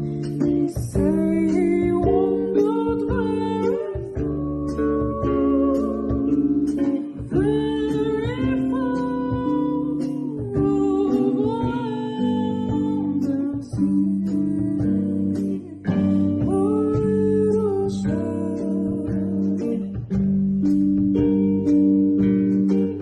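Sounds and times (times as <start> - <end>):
slow acoustic guitar: 0.0 - 23.0.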